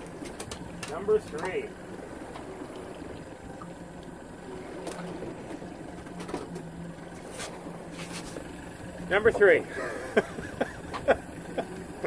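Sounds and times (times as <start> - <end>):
outboard motor running: 0.0 - 12.0
water sloshing: 0.0 - 12.0.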